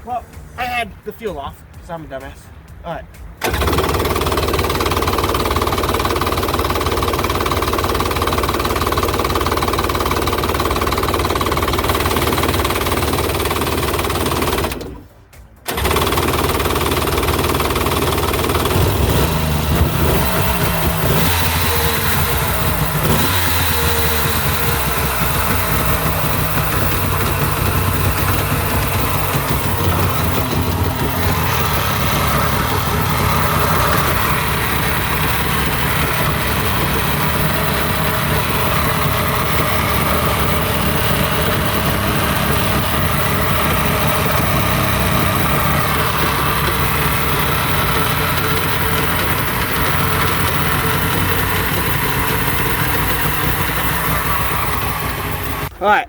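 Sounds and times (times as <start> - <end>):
two-stroke engine idling: 2.4 - 56.0.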